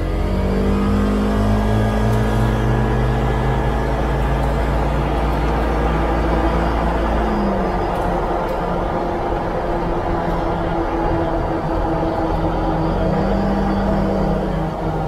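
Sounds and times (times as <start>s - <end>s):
vehicle engine droning from inside cab: 0.0s - 15.0s.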